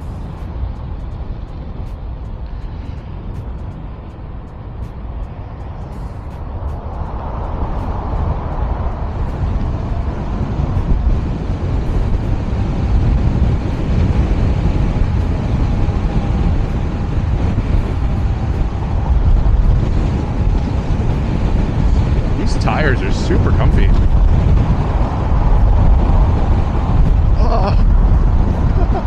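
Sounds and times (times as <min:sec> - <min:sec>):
wind noise on microphone: 0:00.0 - 0:29.0.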